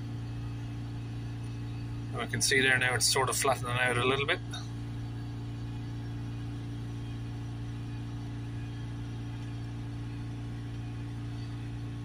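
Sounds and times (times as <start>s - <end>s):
diesel engine revving steadily: 0.0s - 12.0s.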